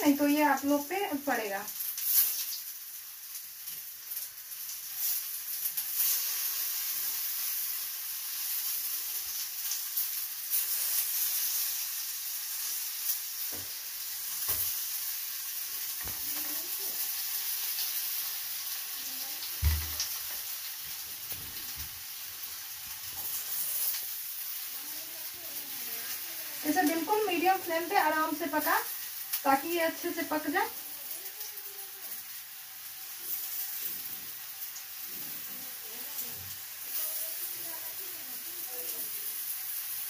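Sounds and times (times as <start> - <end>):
potato slices sizzling in oil: 0.0 - 40.0.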